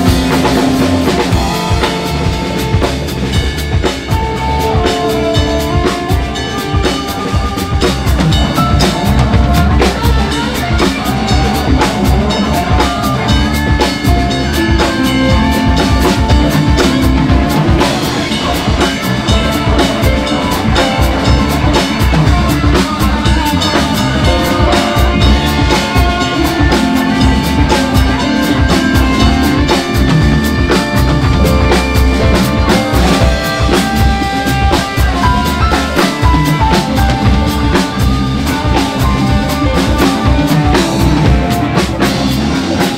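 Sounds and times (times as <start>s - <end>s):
live band playing: 0.0s - 42.9s.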